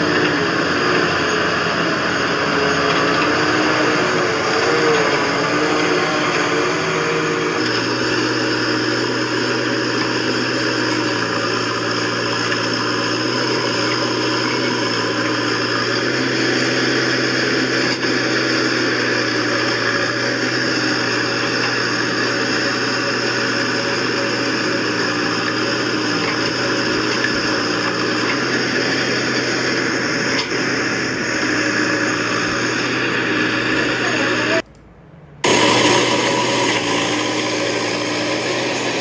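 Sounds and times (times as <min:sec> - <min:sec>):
backhoe arm digging: 0:00.0 - 0:34.6, 0:35.4 - 0:39.0
diesel engine running: 0:00.0 - 0:39.0.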